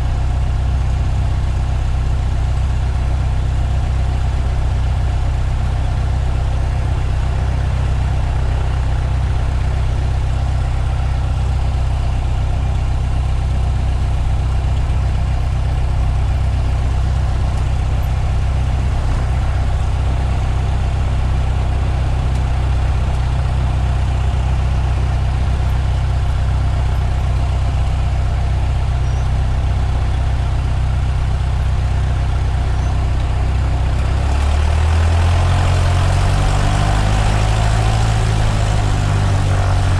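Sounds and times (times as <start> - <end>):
light aircraft engine idling: 0.0 - 39.9.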